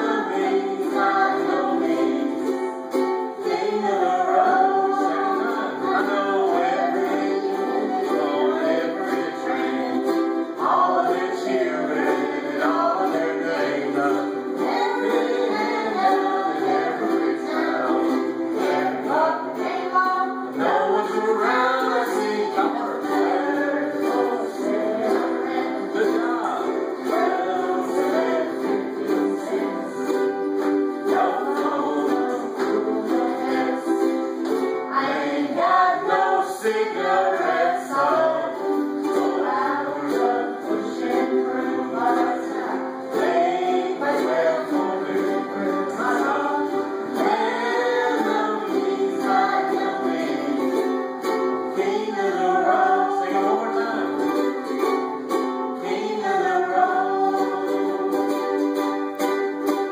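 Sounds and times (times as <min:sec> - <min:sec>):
ukuleles strumming country song: 0:00.0 - 0:59.9
voices singing along: 0:00.0 - 0:59.9.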